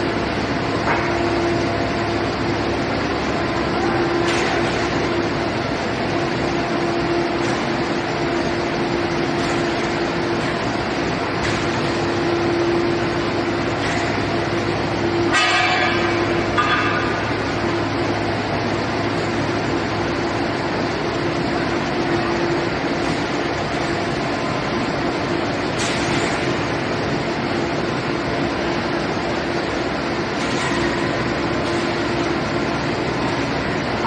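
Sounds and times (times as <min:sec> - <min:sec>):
industrial machinery hum: 0:00.0 - 0:34.0.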